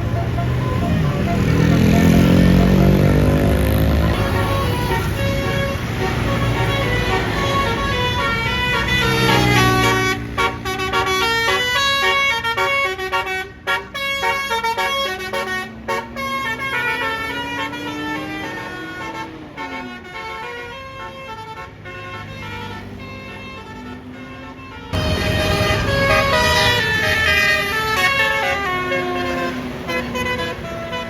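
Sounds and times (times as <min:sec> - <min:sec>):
musical air horn tune: 0:00.0 - 0:31.0.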